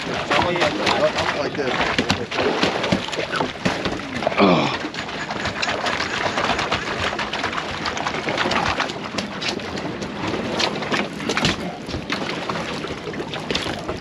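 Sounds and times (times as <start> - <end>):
water lapping around boat: 0.0 - 14.0
wind: 0.0 - 14.0.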